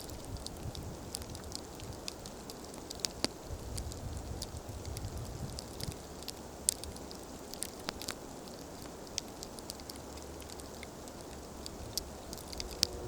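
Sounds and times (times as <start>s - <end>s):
sharp pops and snaps: 0.0s - 12.9s
campfire crackling: 0.0s - 13.0s.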